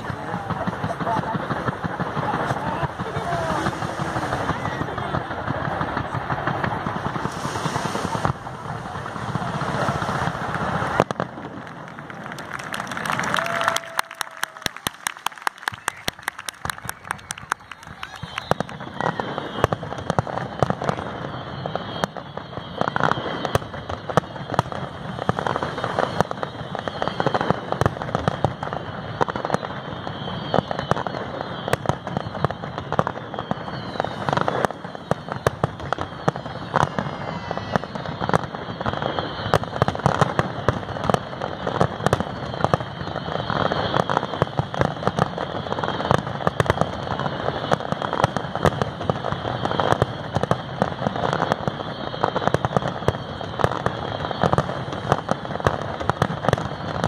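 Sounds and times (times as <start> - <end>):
fireworks bangs: 0.0 - 57.0
fireworks rumble: 0.0 - 57.0.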